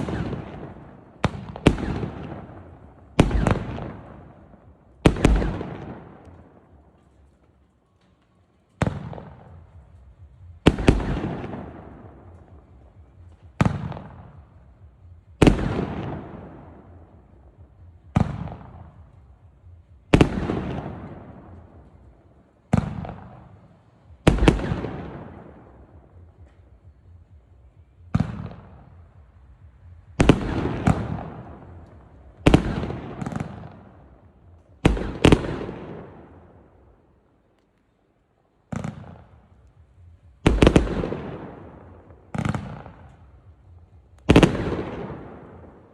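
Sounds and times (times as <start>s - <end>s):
firework bangs with echoing rumble: 0.0s - 6.8s, 8.8s - 27.1s, 28.0s - 36.8s, 38.7s - 45.9s.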